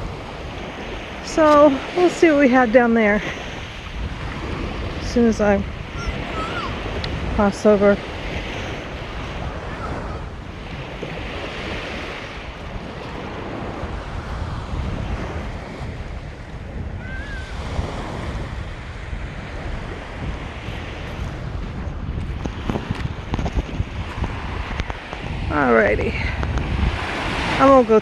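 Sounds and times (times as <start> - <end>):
ocean surf washing onto beach: 0.0 - 28.0
wind buffeting microphone: 0.0 - 28.0.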